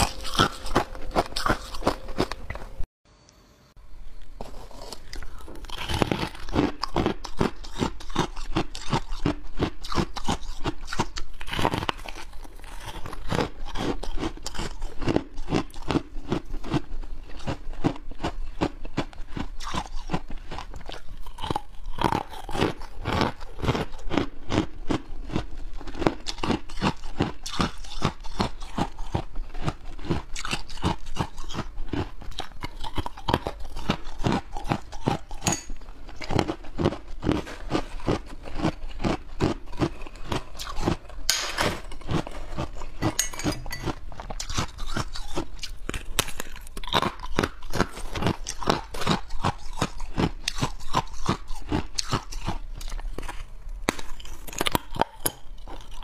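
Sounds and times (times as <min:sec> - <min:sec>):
ice being chewed: 0:00.0 - 0:02.9, 0:04.1 - 0:56.0.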